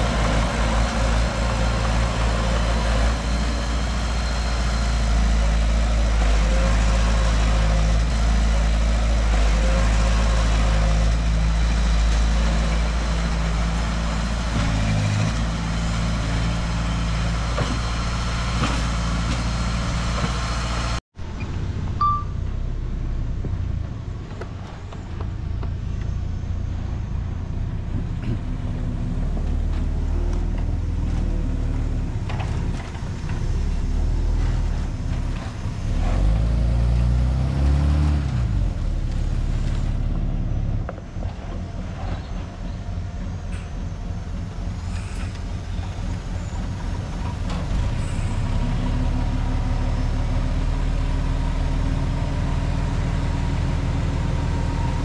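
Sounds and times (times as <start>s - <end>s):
heavy machine diesel engine: 0.0s - 55.0s.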